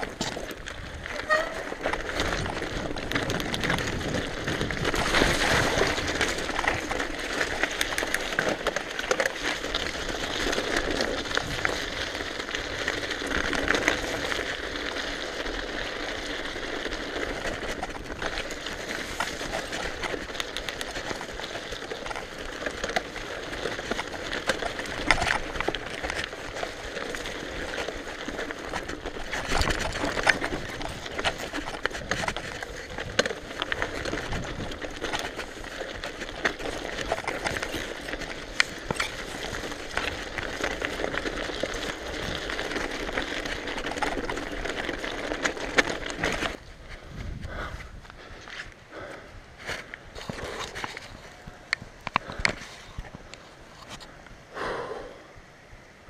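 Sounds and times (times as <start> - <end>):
bike rattling and knocking: 0.0 - 47.7
bike tyres on loose stones: 0.0 - 56.0.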